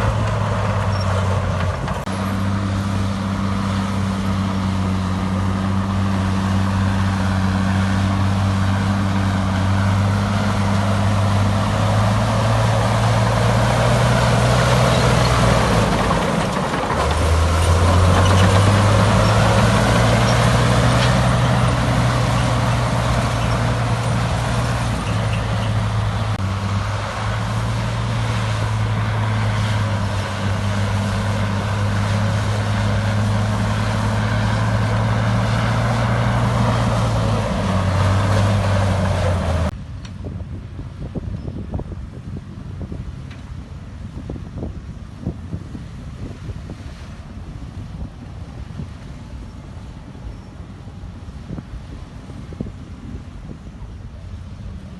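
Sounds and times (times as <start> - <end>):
construction machine diesel engine: 0.0 - 46.0.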